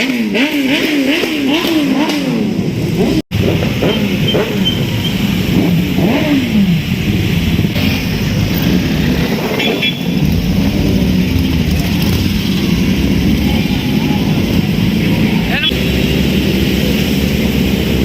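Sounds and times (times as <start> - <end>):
motorcycle engine revving: 0.0 - 18.0
motorcycle engines running: 0.0 - 18.0.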